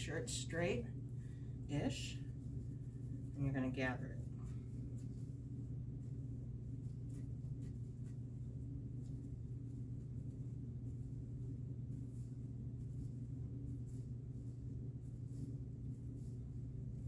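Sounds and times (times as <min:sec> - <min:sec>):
steady low hum: 0:00.0 - 0:17.0
fabric rustling: 0:01.1 - 0:17.0.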